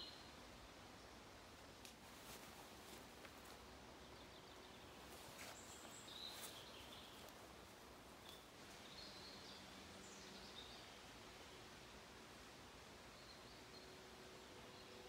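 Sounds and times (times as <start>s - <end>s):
quiet hiss: 0.0s - 15.0s.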